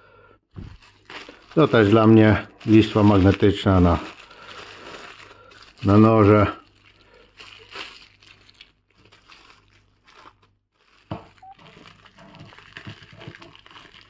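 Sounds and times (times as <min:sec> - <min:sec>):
plastic wrapping rustling: 0:00.5 - 0:14.0.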